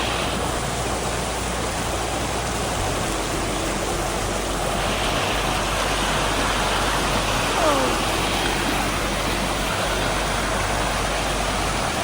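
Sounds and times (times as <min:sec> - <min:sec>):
waterfall and creek rushing over rocks: 0:00.0 - 0:12.0.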